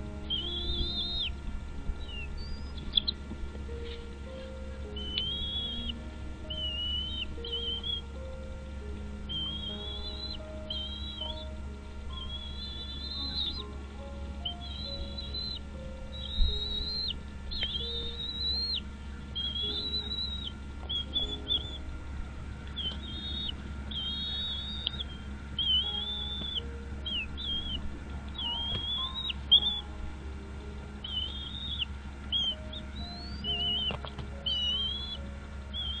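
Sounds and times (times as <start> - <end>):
faint low notes: 0.0 - 36.0.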